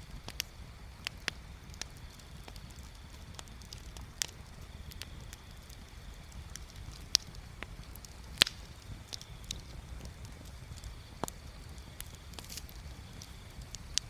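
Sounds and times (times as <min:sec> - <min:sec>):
burning wood popping and snapping: 0:00.0 - 0:14.0
low fire rumble: 0:00.0 - 0:14.0.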